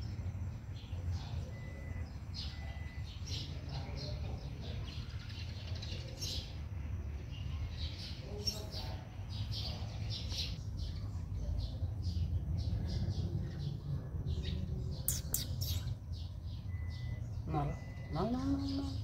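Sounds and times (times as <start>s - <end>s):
faint distant voices: 0.0s - 19.0s
small birds chirping: 0.0s - 19.0s.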